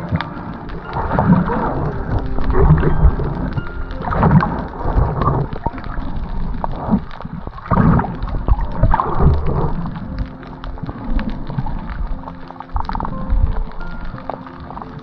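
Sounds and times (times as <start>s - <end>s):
low rumble: 0.0s - 15.0s
water sloshing and gurgling: 0.0s - 15.0s.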